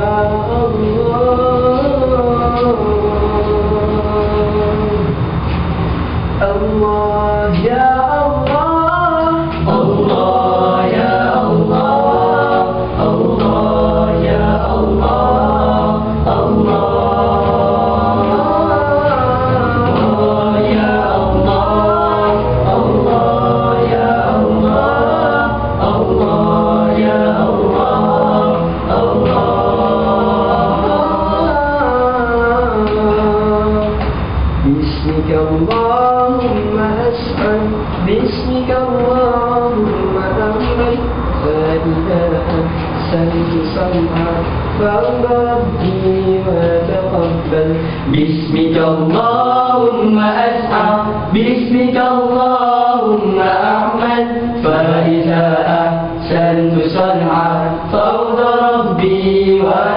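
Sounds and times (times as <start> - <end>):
men singing a cappella: 0.0 - 59.9.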